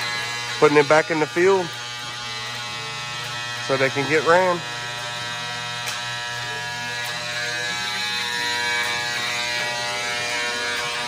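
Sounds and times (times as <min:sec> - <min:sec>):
steady mechanical buzz: 0:00.0 - 0:11.0.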